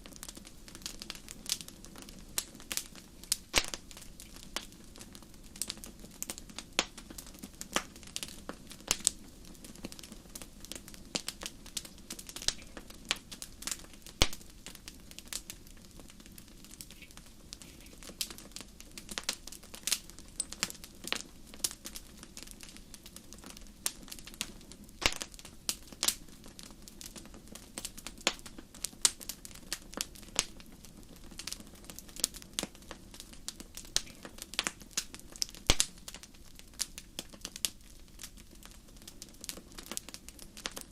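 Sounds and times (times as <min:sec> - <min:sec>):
fire crackling in a fireplace: 0:00.0 - 0:40.9.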